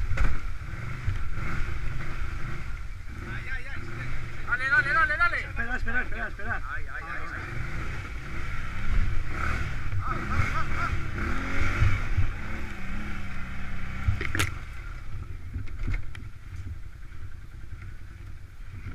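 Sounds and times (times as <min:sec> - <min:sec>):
quad bike engine running: 0:00.0 - 0:18.9.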